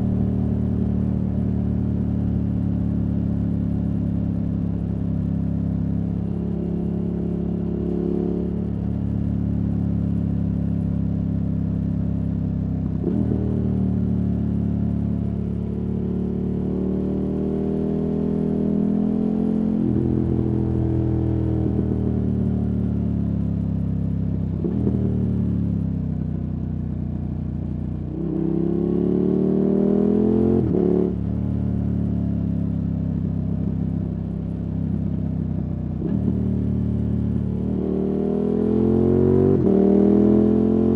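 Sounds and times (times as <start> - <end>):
motorcycle engine revving: 0.0 - 25.9, 28.0 - 40.9.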